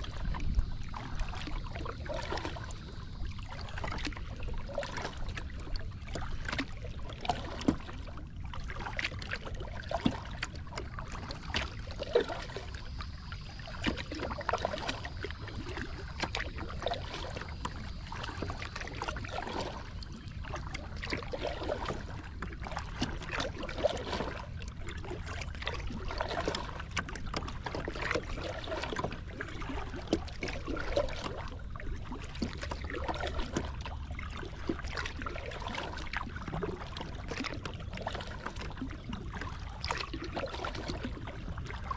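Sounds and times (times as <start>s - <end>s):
waves splashing against kayak hull: 0.0s - 41.9s
wind rumble on microphone: 0.0s - 41.9s.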